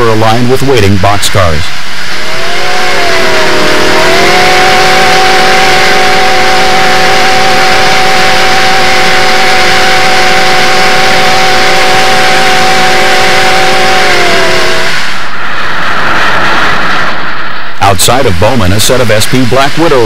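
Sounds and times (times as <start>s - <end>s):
moving train noise: 0.0s - 20.0s.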